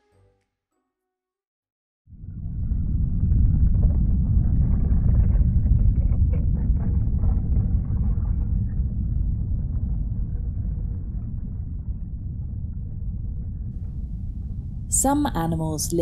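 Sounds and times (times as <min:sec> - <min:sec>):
underwater rumble of moving water: 0:02.1 - 0:16.0.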